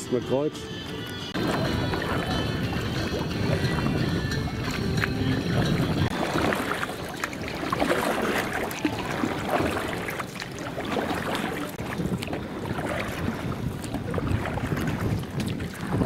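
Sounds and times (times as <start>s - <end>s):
water splashing around boat: 0.0s - 16.0s
wind on microphone: 1.3s - 16.0s.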